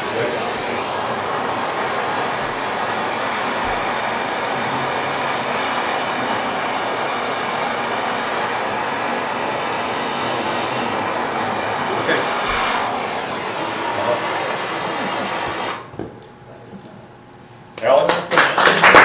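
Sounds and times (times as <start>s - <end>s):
gas torch hissing: 0.0s - 15.9s.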